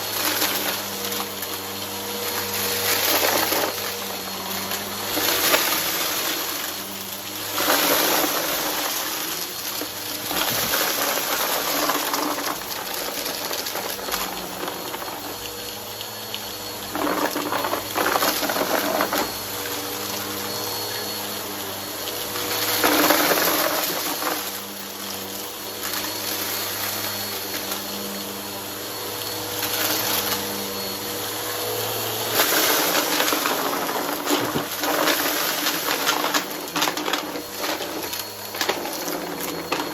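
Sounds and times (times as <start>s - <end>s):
vacuum crunching dry debris: 0.0s - 15.8s, 16.4s - 28.1s, 29.2s - 39.9s
vacuum cleaner running: 0.0s - 39.9s.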